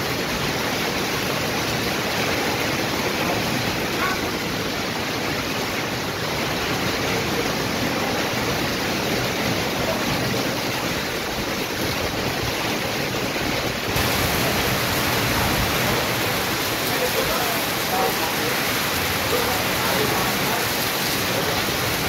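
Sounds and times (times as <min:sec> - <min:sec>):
heavy rain on a metal roof: 0:00.0 - 0:22.0.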